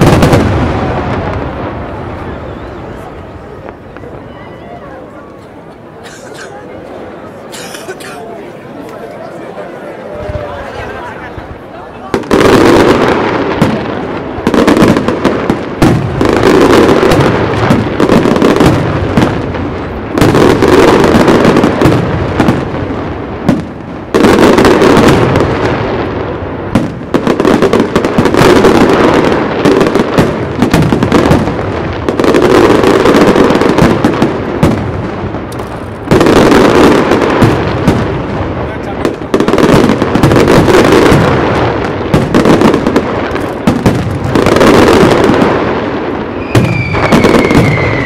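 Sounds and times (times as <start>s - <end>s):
fireworks bursting: 0.0s - 9.3s, 10.0s - 48.0s.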